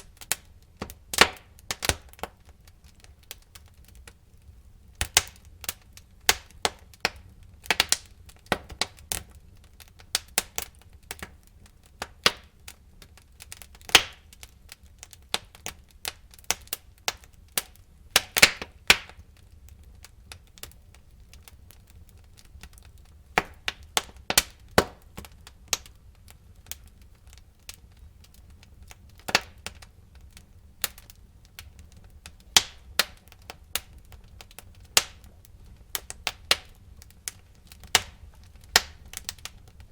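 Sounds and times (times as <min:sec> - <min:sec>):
burning wood crackling and popping: 0:00.0 - 0:39.9
faint low fire rumble: 0:00.0 - 0:39.9.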